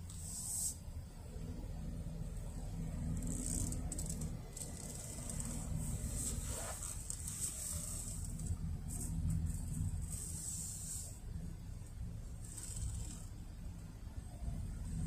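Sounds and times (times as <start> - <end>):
car engine low hum: 0.0 - 15.0.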